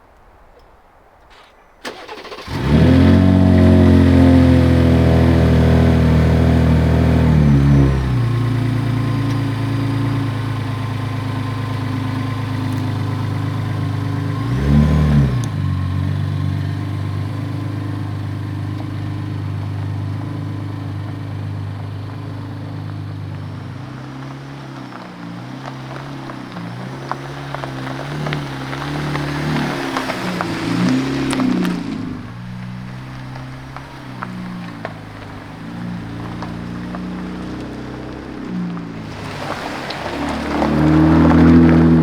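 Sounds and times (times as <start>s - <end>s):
pickup truck engine running: 1.8s - 42.0s.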